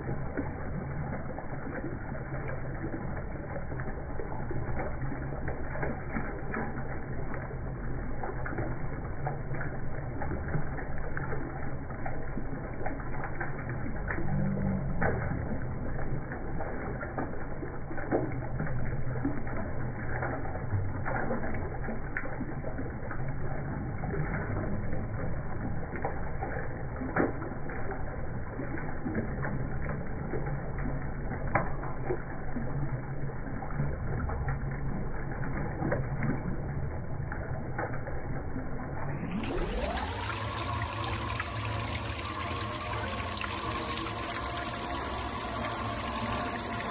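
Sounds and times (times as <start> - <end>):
water drips and plops: 0.0 - 46.9
water splashing into a pool: 0.0 - 46.9.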